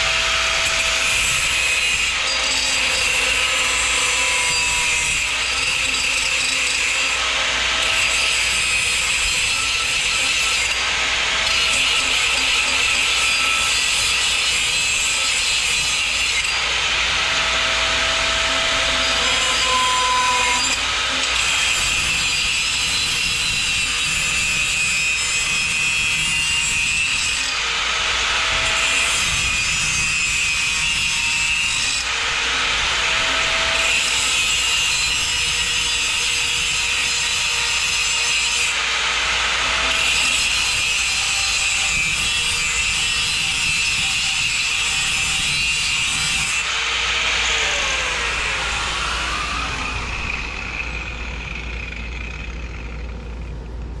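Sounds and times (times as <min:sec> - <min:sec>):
saw cutting metal tubing: 0:00.0 - 0:53.1.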